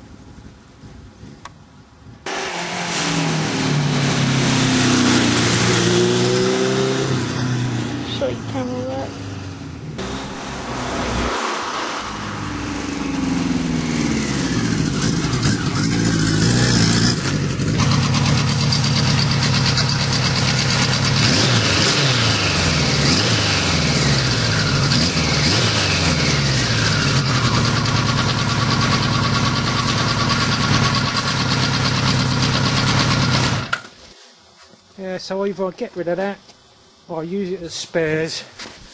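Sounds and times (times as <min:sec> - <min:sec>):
motorcycle engine revving: 0:02.3 - 0:33.8.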